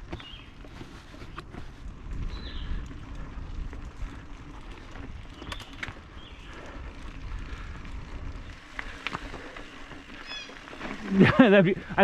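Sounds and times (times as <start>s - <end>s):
bike clicks and rattles: 0.0s - 12.0s
bike tyres rumbling on dirt: 0.0s - 12.0s
wind buffeting microphone: 0.0s - 12.0s.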